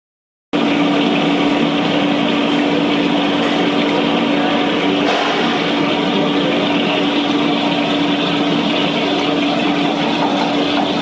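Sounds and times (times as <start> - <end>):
machine humming: 0.6 - 11.0.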